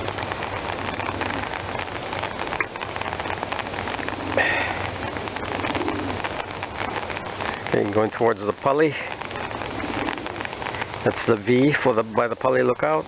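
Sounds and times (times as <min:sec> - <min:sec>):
very heavy rain falling: 0:00.0 - 0:13.0.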